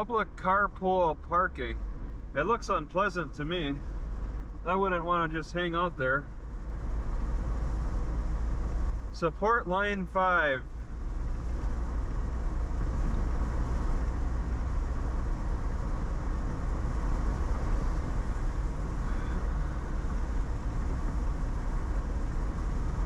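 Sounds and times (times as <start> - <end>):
car road noise from inside: 0.0 - 23.0.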